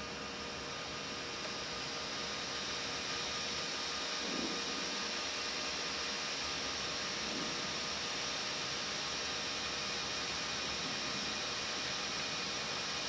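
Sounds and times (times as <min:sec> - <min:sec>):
cockpit airflow and engine rush: 0:00.0 - 0:13.0.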